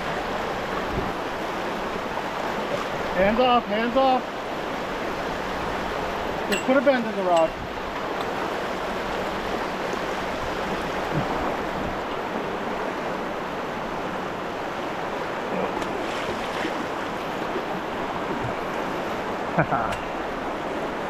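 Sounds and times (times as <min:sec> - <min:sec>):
river current rushing: 0:00.0 - 0:21.0.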